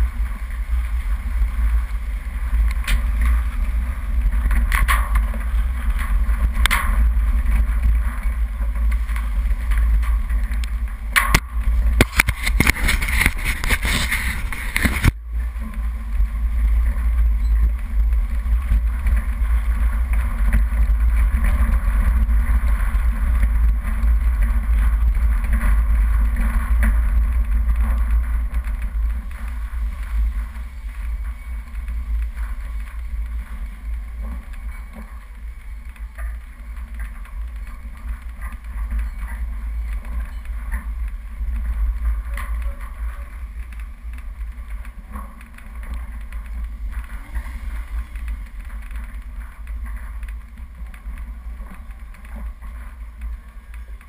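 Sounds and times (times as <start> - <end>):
engine and tyres rumbling: 0.0 - 54.0
knocks and rattles over bumps: 0.0 - 54.0.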